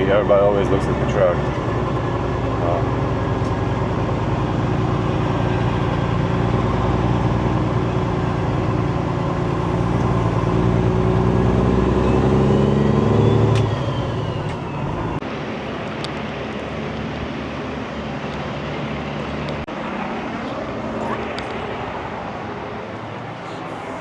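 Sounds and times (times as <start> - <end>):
truck diesel engine under load: 0.0 - 15.4, 16.1 - 24.0.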